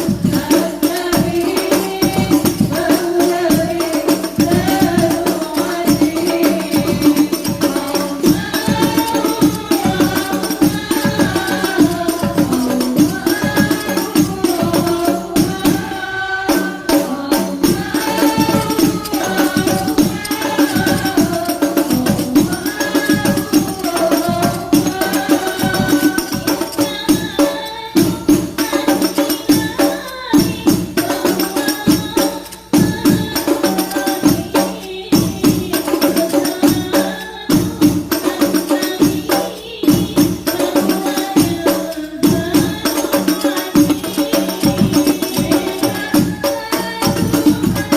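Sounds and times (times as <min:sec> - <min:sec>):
frame drums hand-drumming: 0:00.0 - 0:47.9
voices singing devotional melody: 0:00.0 - 0:47.9.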